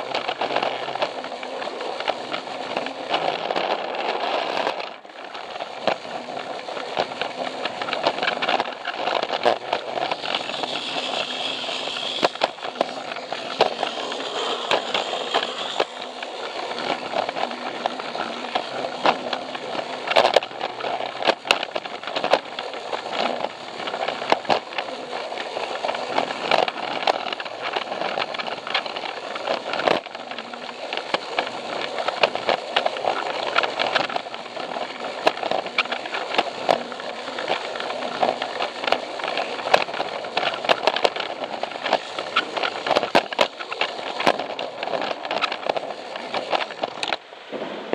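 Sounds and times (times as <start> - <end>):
toy train motor rattling: 0.0 - 47.2
wheels clicking over track joints: 0.0 - 47.3.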